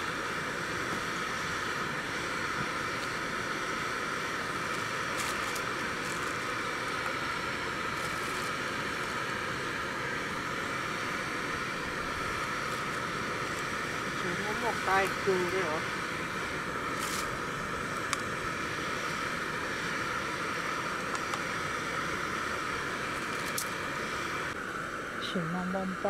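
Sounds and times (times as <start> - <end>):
gas stove burner hissing: 0.0 - 26.0.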